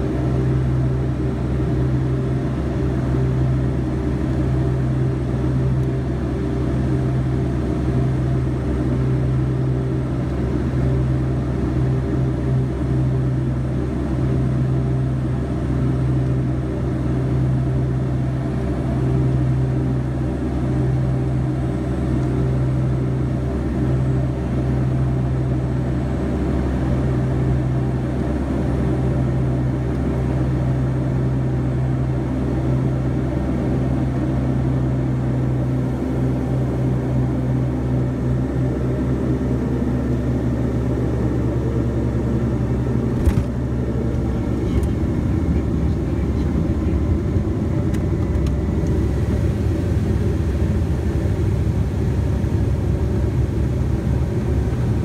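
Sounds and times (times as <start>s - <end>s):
engine and air rush: 0.0s - 55.0s
propeller drone: 0.0s - 55.0s.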